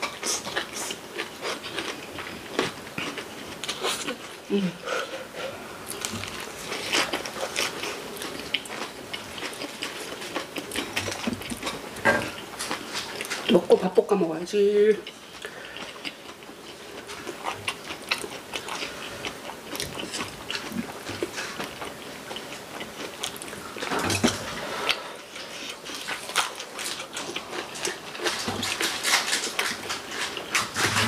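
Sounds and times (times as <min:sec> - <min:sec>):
chewing and crunching: 0:00.0 - 0:31.0.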